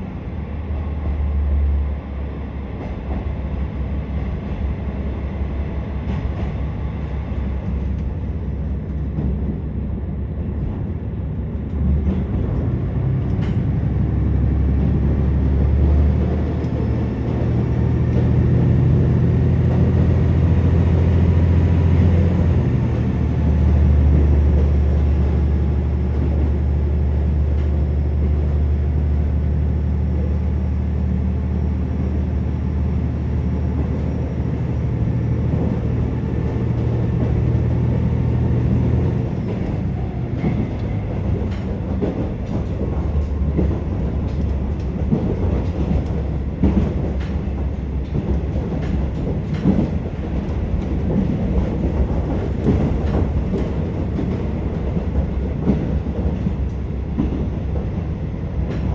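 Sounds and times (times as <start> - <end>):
train wheels rumbling on track: 0.0 - 58.9.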